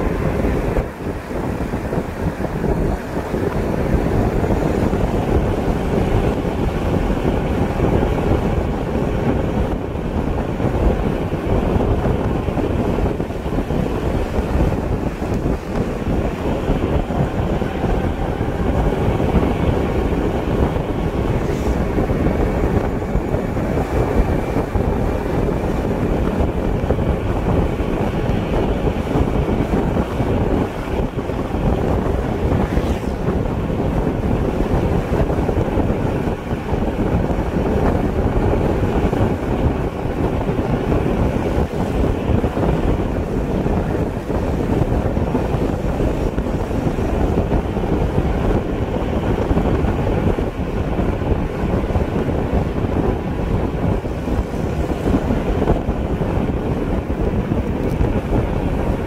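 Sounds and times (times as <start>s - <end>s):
vehicle road and engine noise: 0.0s - 59.0s
wind buffeting microphone: 0.0s - 59.0s.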